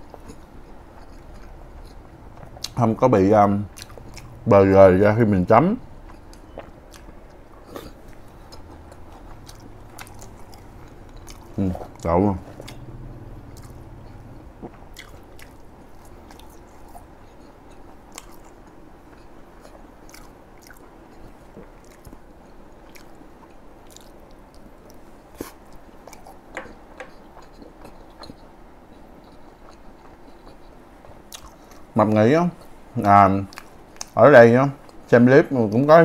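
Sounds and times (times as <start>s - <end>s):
soft wet chewing: 0.0s - 4.4s, 5.9s - 35.9s.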